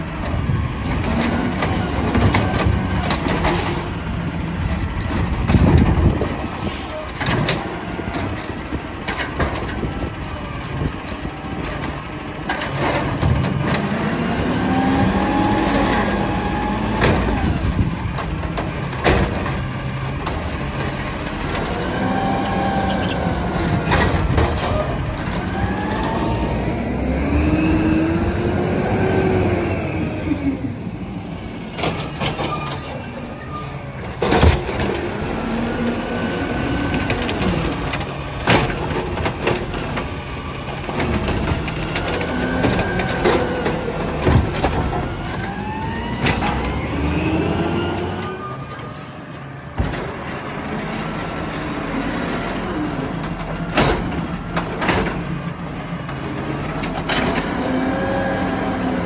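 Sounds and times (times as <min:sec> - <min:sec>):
truck engine and hydraulics: 0:00.0 - 0:59.0.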